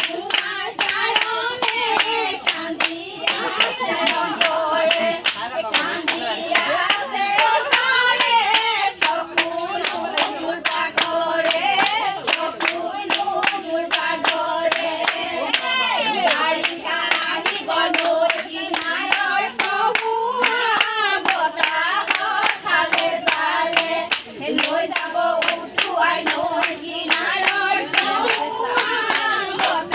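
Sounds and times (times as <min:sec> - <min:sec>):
rhythmic hand clapping: 0:00.0 - 0:29.9
voices singing together: 0:00.0 - 0:29.9.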